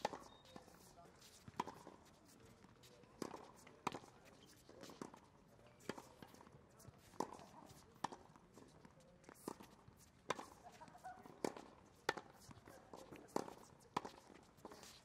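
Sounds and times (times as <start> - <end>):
footsteps on court: 0.0 - 15.0.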